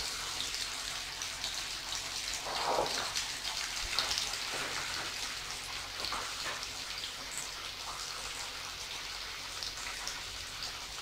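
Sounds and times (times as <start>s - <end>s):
croquettes sizzling in oil: 0.0s - 11.0s.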